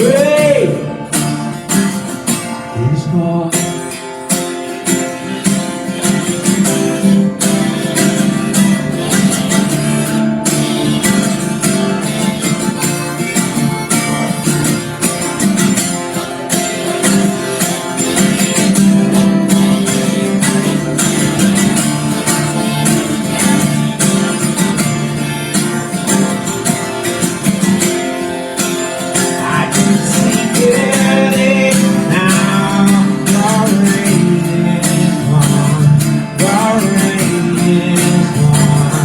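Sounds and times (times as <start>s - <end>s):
acoustic guitar strumming: 0.0s - 39.0s.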